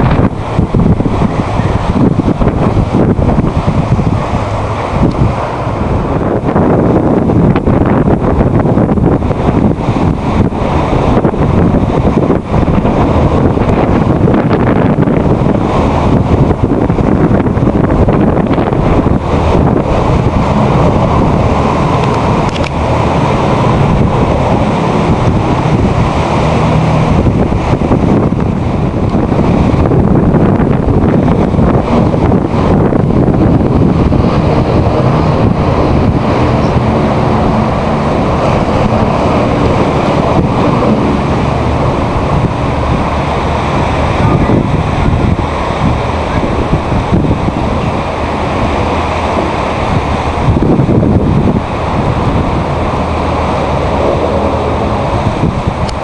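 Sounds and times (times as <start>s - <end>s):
sea surf: 0.0s - 56.0s
wind buffeting microphone: 0.0s - 56.0s.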